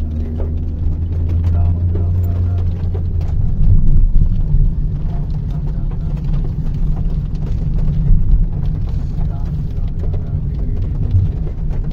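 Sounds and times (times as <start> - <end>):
car engine and tyres on wet road: 0.0 - 11.9.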